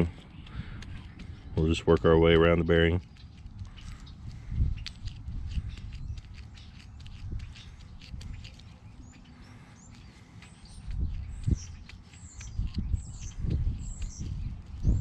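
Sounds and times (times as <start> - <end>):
grease squelching and clicking: 0.0 - 15.0
small bird chirping: 0.0 - 15.0.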